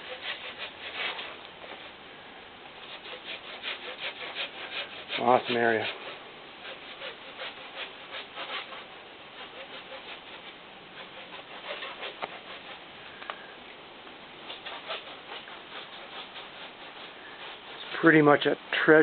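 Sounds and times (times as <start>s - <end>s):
rustling of brush and twigs: 0.0s - 19.0s.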